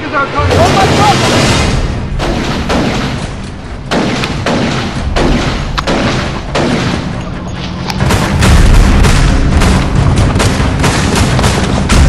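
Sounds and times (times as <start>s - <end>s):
rapid gunshots: 0.4s - 7.3s, 8.0s - 12.0s.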